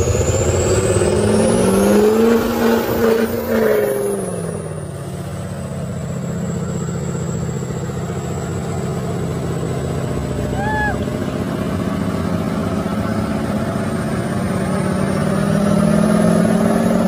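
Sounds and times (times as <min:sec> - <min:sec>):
diesel engine revving hard: 0:00.0 - 0:17.0.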